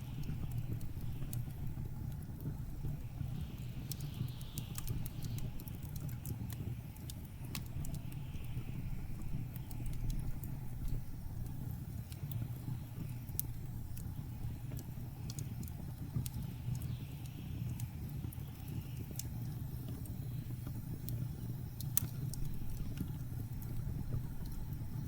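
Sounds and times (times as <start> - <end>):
low rumble of blizzard wind: 0.0 - 25.0
wood fire crackling and popping: 0.0 - 25.0.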